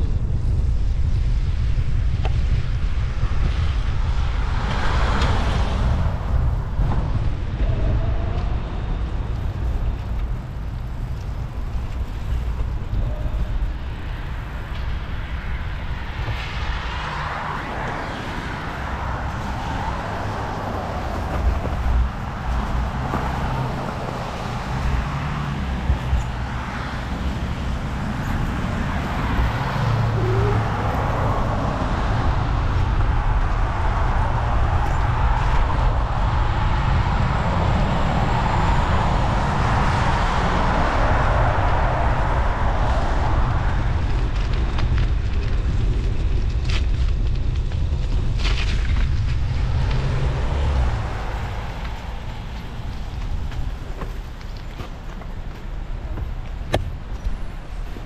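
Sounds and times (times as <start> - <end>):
road traffic passing: 0.0 - 58.0
wind rumble on microphone: 0.0 - 58.0.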